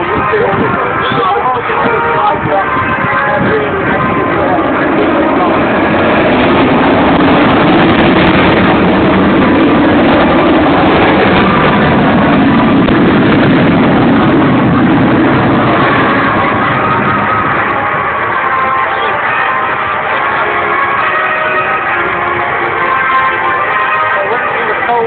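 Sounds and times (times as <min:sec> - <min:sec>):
loud jet roar: 0:00.0 - 0:25.0.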